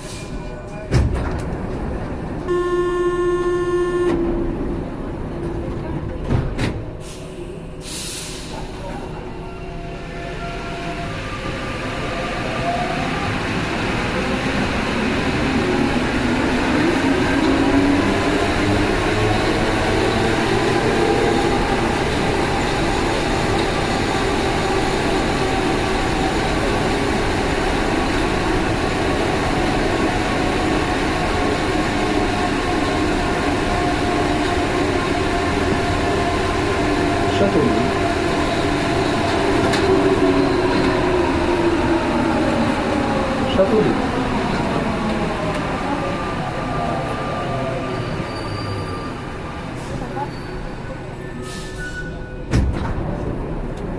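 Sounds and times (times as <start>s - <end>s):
train rumble: 0.0s - 2.6s, 4.0s - 53.9s.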